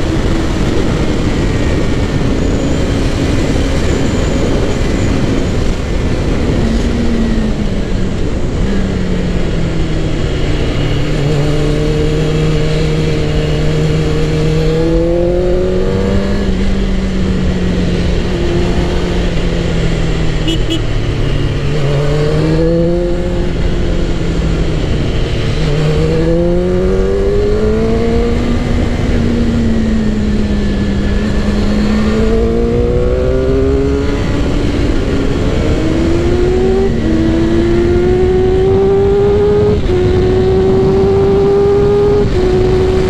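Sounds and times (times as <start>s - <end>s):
low rush of wind: 0.0s - 43.0s
motorcycle engine accelerating through gears: 0.0s - 43.0s.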